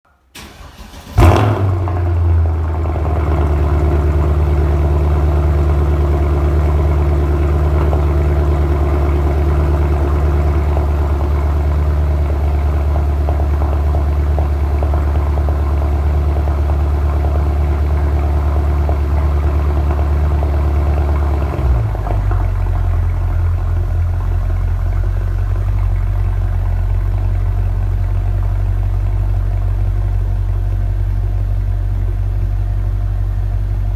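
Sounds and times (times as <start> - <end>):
car engine starting and idling: 0.1 - 33.9.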